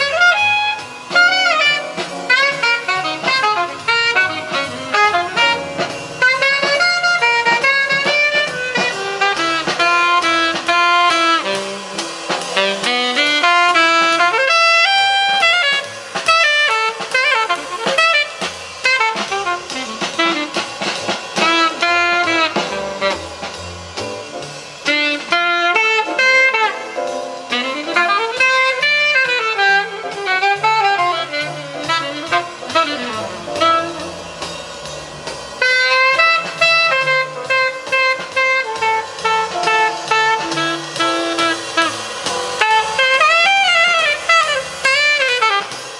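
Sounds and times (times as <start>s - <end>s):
recorded music over speakers: 0.0s - 45.9s.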